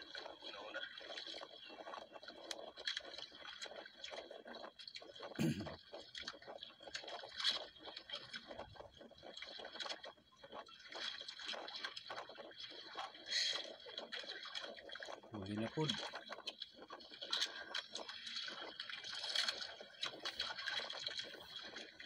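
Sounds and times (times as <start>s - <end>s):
water drips: 0.0s - 22.0s
water lapping against boat hull: 0.0s - 22.0s.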